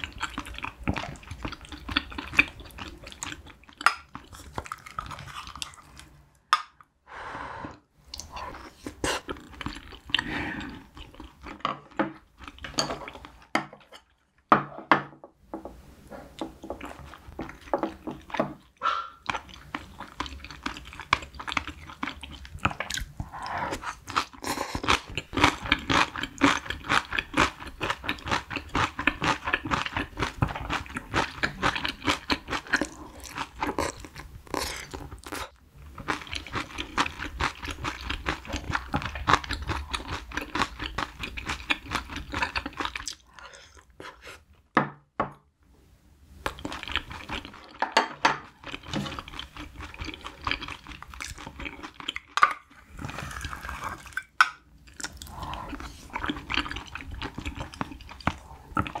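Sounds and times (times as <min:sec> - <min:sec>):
chewing and eating: 0:00.0 - 0:06.8, 0:08.1 - 0:14.5, 0:16.2 - 0:44.6, 0:46.4 - 0:59.0.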